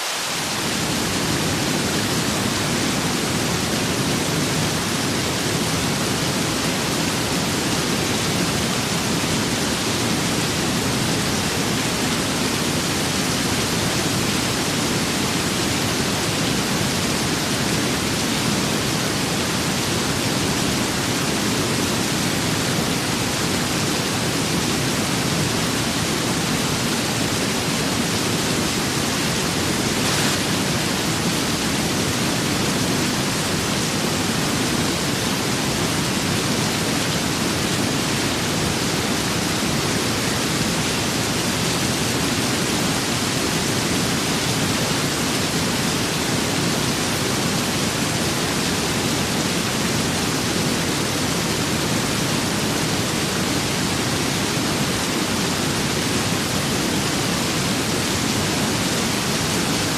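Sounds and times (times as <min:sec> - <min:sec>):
rain and wind hiss: 0:00.0 - 0:59.9.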